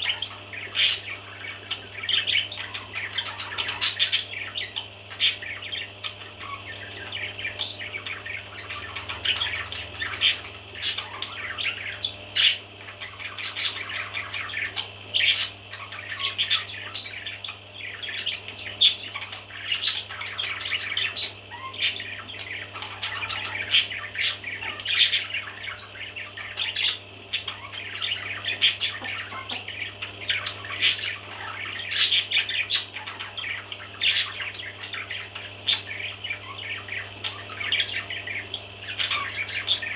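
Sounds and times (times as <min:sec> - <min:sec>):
baby parrots chirping and squawking: 0:00.0 - 0:39.9.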